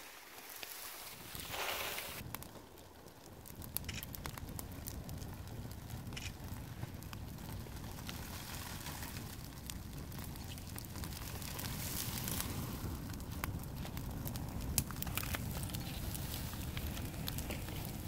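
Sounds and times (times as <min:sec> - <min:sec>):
fire crackles and pops: 0:00.0 - 0:18.0
low rush of flame: 0:00.4 - 0:18.0.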